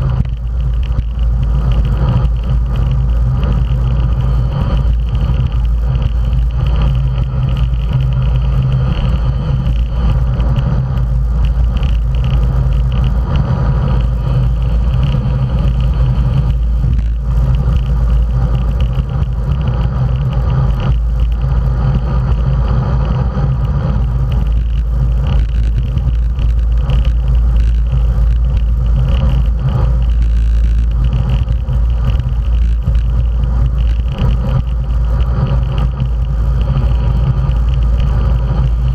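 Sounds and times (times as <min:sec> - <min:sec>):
bike tyres rolling on asphalt: 0:00.0 - 0:38.9
wind buffeting microphone: 0:00.0 - 0:38.9.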